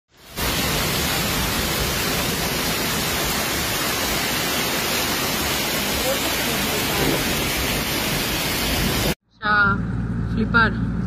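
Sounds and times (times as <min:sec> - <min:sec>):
heavy hail hissing: 0:00.1 - 0:09.2.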